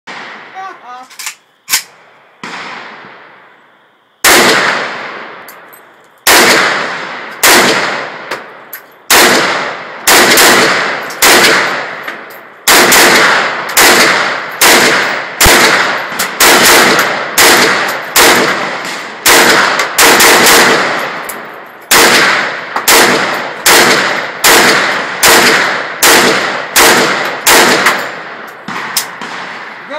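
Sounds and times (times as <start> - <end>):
rifle firing single shots: 0.1 - 3.4, 4.2 - 29.9.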